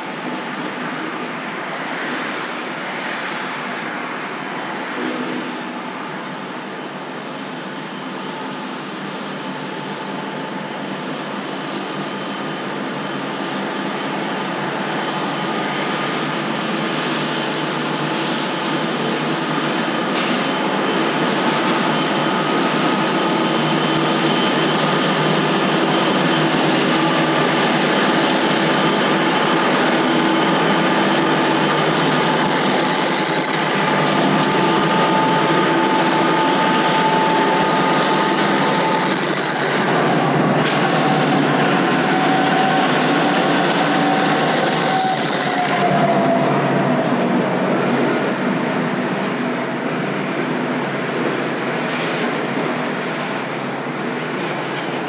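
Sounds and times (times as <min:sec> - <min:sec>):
high wheel squeal: 0:00.0 - 0:07.3, 0:10.5 - 0:55.0
diesel locomotive engines droning: 0:00.0 - 0:55.0.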